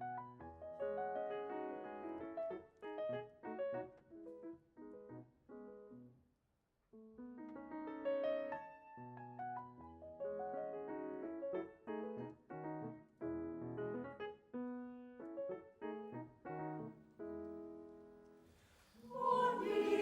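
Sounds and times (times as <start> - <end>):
solo piano: 0.0 - 6.1, 6.9 - 20.0.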